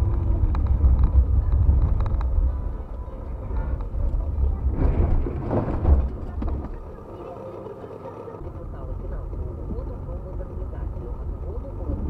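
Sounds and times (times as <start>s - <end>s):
car engine: 0.0s - 12.0s
road noise: 0.0s - 12.0s.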